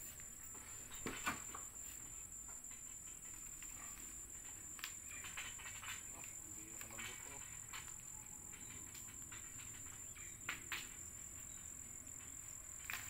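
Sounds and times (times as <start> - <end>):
high-pitched insect chirring: 0.2 - 13.0.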